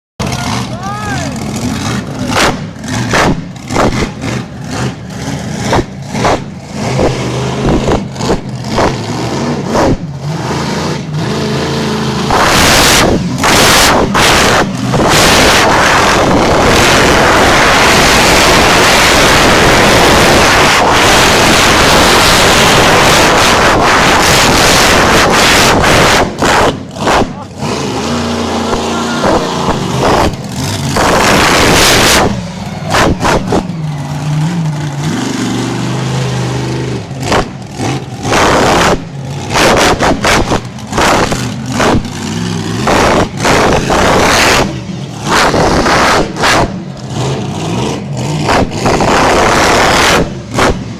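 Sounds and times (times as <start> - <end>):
monster truck engine revving: 0.2 - 50.9.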